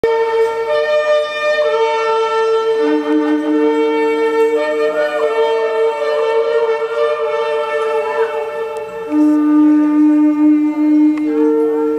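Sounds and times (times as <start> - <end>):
shofar held note: 0.0 - 11.9.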